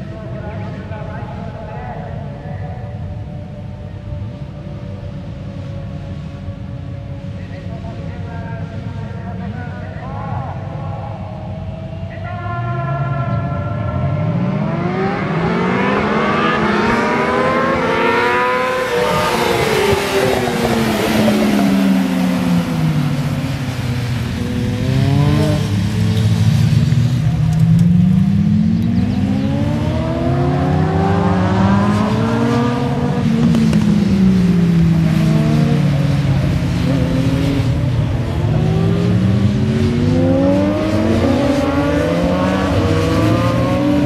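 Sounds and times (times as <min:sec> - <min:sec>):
racing motorcycles revving: 0:00.0 - 0:44.0.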